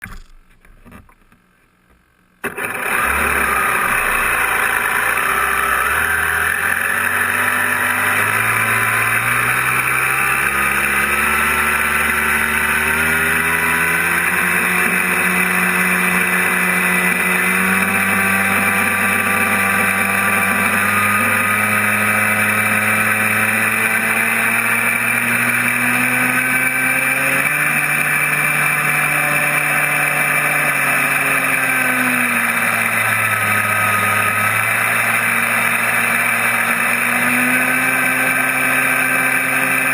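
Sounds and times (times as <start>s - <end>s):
electric motor whine: 2.4s - 39.9s.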